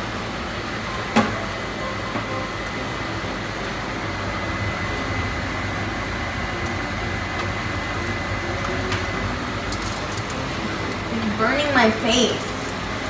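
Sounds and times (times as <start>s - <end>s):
low hum: 0.0s - 13.0s
oven fan whirring: 0.0s - 13.0s.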